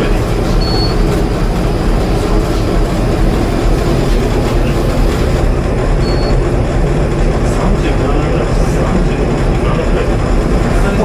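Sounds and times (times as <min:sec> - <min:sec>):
ship diesel engine droning: 0:00.0 - 0:11.0.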